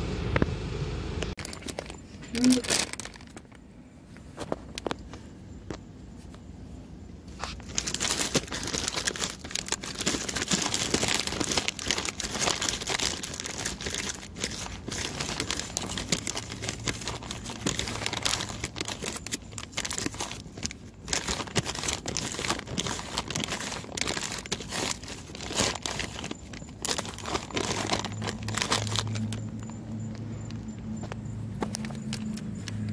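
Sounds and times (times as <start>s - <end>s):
plastic bag crinkling: 1.4s - 5.2s, 7.2s - 32.9s.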